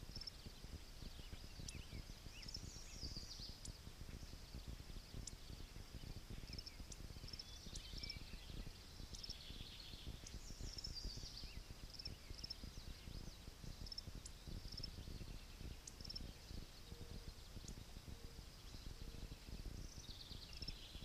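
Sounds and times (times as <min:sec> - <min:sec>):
low rumble of wind: 0:00.0 - 0:21.0
small birds chirping: 0:00.0 - 0:21.0.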